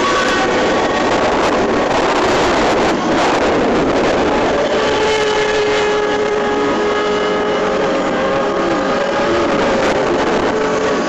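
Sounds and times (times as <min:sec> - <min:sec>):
motorboat engine running: 0:00.0 - 0:11.0
water rushing: 0:00.0 - 0:11.0
wind: 0:00.0 - 0:11.0.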